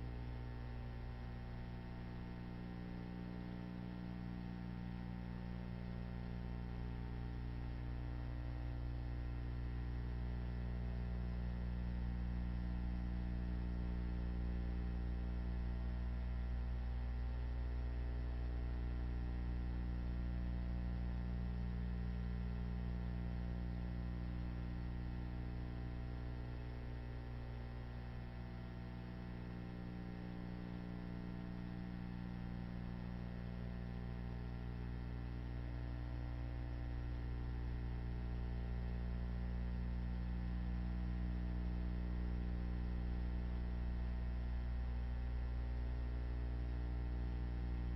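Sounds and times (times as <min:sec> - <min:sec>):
low buzzy electrical hum: 0:00.0 - 0:47.9.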